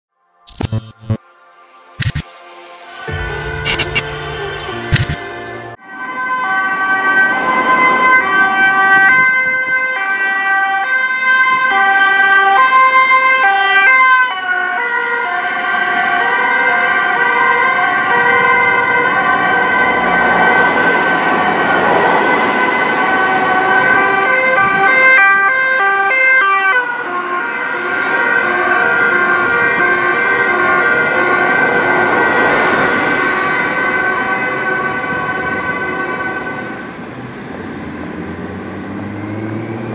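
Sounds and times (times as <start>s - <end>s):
passing traffic: 0.8s - 39.9s
two-tone sirens: 1.1s - 39.9s.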